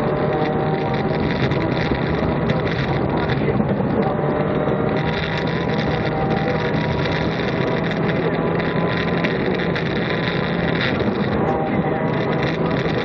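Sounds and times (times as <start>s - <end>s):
rally car engine running hard: 0.0s - 13.0s
road and wind noise: 0.0s - 13.0s.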